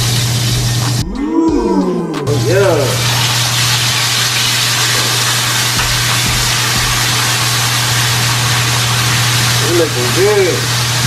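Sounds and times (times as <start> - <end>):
steak sizzling in a pan: 0.0 - 1.0, 2.4 - 11.0.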